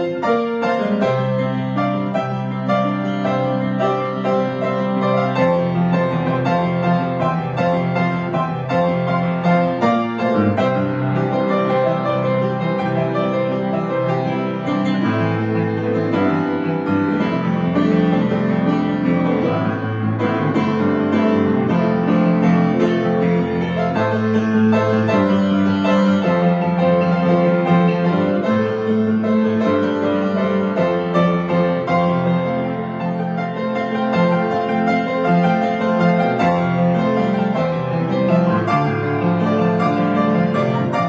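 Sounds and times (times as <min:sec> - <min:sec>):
piano chords: 0:00.0 - 0:41.0.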